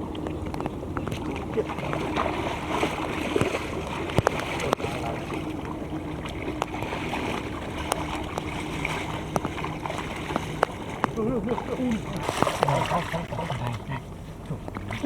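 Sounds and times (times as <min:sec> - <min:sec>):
faint steady hum: 0:00.0 - 0:15.0
muddy water sloshing: 0:00.0 - 0:15.0.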